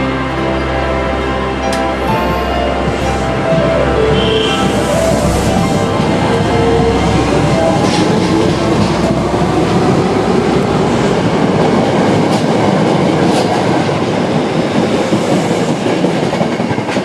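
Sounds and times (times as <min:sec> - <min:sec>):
electric train rumbling on rails: 0:00.0 - 0:17.0.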